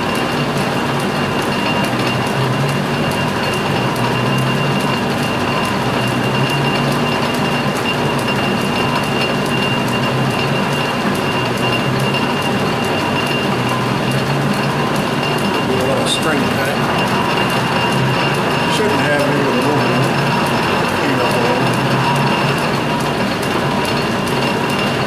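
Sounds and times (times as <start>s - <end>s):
metal lathe whining: 0.0s - 25.0s.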